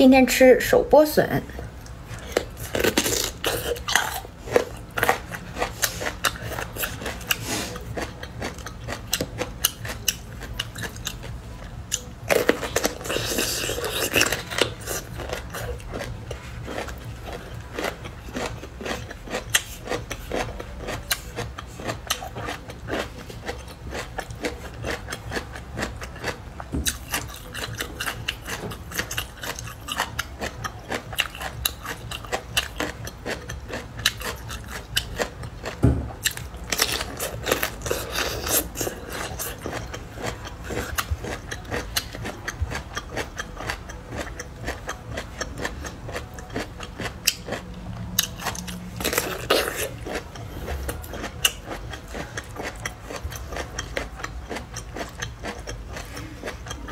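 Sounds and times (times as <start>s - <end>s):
crunchy chewing: 1.5s - 56.9s.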